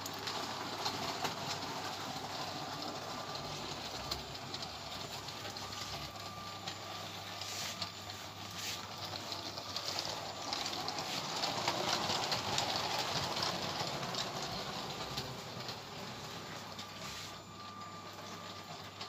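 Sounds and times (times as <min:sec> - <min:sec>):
toy train motor whine: 0:00.0 - 0:19.0.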